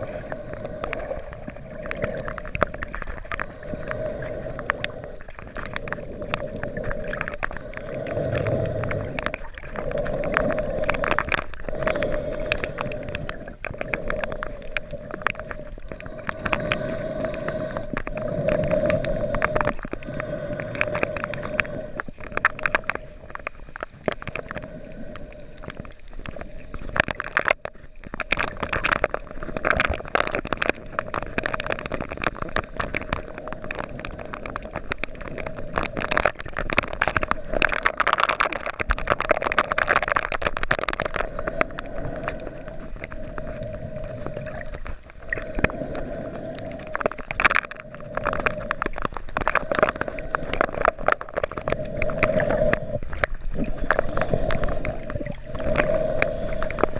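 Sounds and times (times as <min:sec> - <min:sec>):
crackle of fine clicks: 0:00.0 - 0:56.9
muffled underwater hum: 0:00.0 - 0:56.9.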